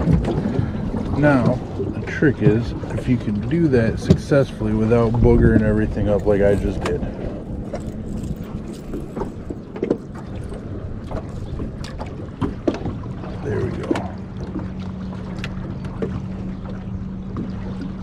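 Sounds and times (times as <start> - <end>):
wind on microphone: 0.0 - 15.4
outboard motor running: 0.0 - 18.0.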